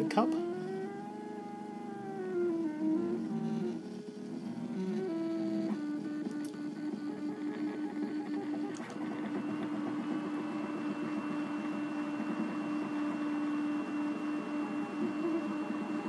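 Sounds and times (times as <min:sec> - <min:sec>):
stepper motors whirring: 0:00.0 - 0:16.0.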